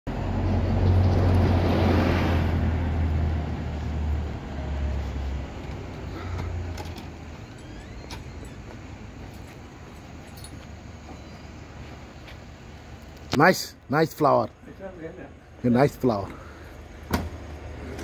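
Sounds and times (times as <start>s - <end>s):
vehicle engine rumbling: 0.1s - 18.0s.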